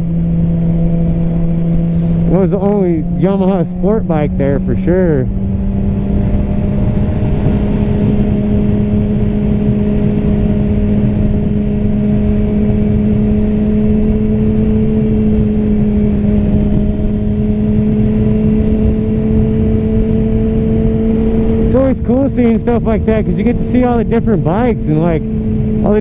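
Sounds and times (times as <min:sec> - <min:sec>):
motorcycle engine cruising: 0:00.0 - 0:26.0
wind and road noise: 0:00.0 - 0:26.0.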